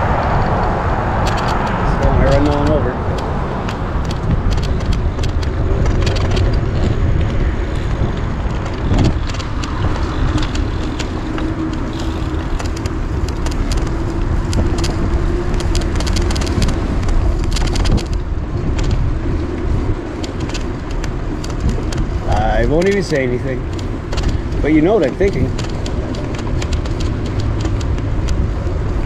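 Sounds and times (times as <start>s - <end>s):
bicycle tyre rumble: 0.0s - 29.0s
bike clicks and rattles: 0.0s - 29.0s
wind rushing over microphone: 0.0s - 29.0s.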